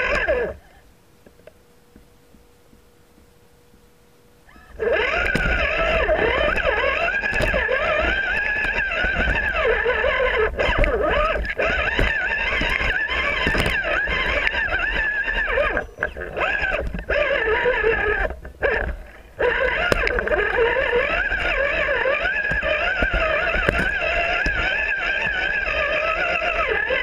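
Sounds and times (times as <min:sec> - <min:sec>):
electric motor and gearbox whining: 0:00.0 - 0:00.7, 0:04.4 - 0:27.0.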